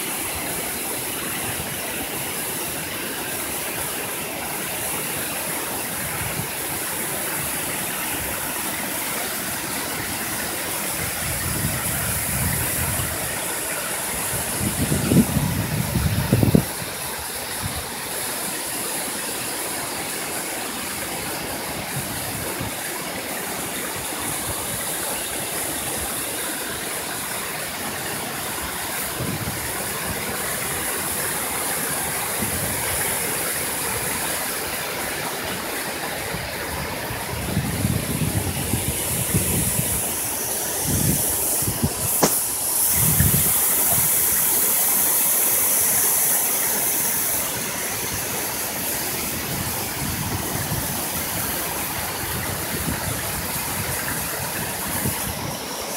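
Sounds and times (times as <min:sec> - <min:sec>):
stream over boulders: 0:00.0 - 0:55.9
waterfall rushing: 0:00.0 - 0:55.9.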